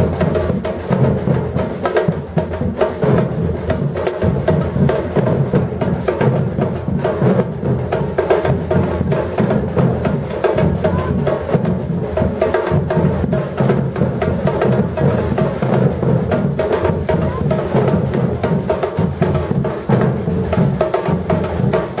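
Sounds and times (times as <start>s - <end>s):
drum ensemble groove: 0.0s - 22.0s.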